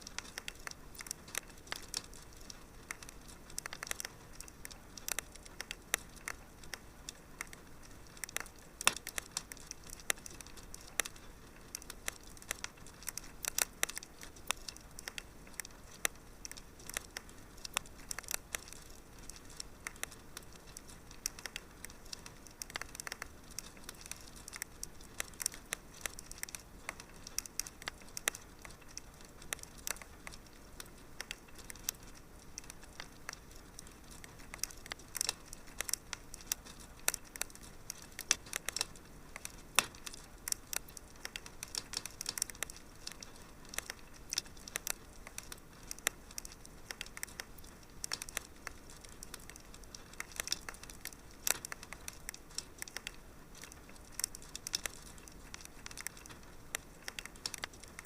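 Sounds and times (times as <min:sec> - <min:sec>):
soft steady hiss: 0:00.0 - 0:58.0
wood fire crackling: 0:00.0 - 0:58.0.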